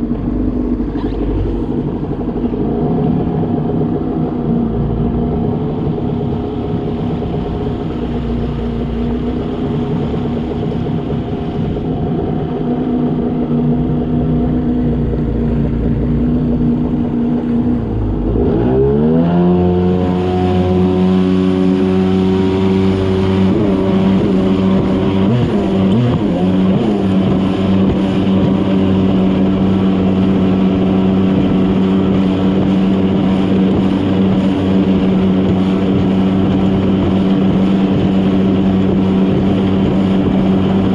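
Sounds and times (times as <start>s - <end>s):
jet ski engine drone: 0.0s - 40.9s.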